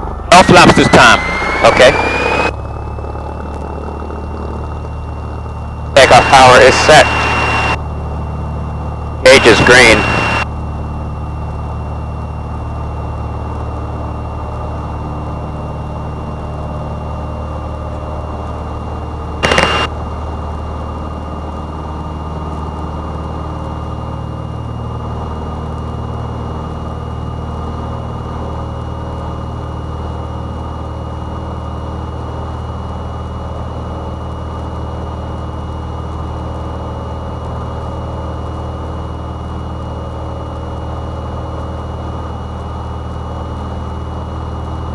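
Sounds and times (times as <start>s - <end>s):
propeller plane engine drone: 0.0s - 44.9s.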